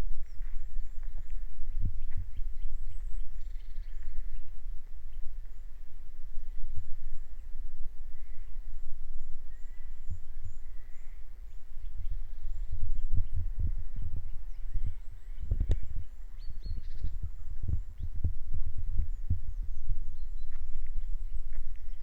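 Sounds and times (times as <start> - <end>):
faint bird chirps: 0.0 - 18.4.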